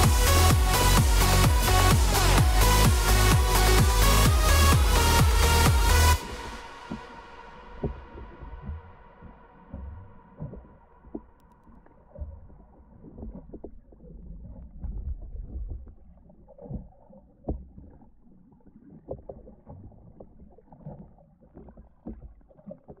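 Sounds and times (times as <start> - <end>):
underwater water rumbling: 0.0 - 23.0.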